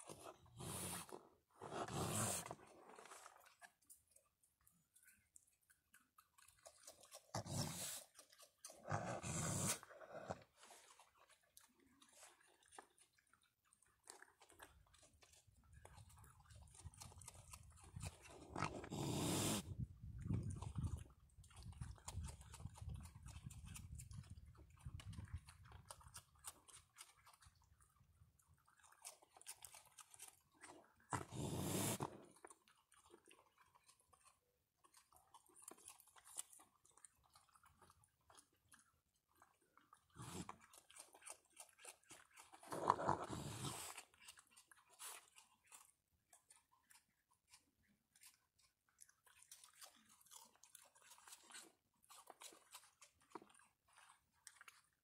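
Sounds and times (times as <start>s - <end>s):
raccoons chewing and crunching food: 0.0s - 55.0s.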